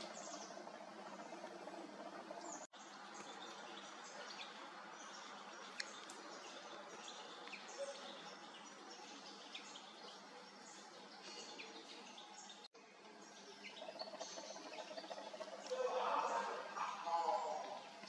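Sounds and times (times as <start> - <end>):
faint birds chirping: 0.0 - 18.0
outdoor background hiss: 0.0 - 18.0.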